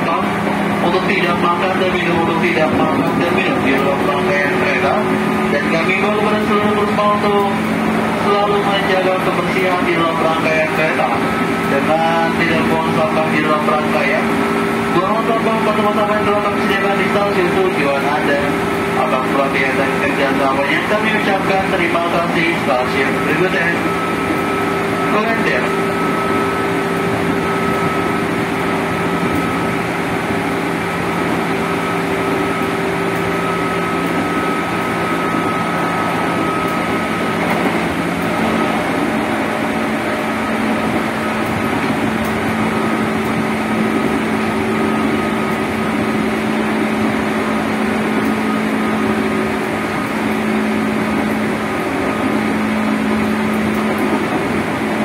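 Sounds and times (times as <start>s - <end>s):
train motor whine: 0.0s - 55.0s
wheels roaring on rail: 0.0s - 55.0s.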